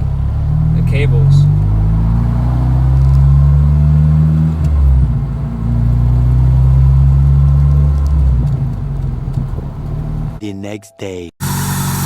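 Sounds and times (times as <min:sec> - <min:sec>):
car engine running: 0:00.0 - 0:10.4, 0:11.4 - 0:12.0.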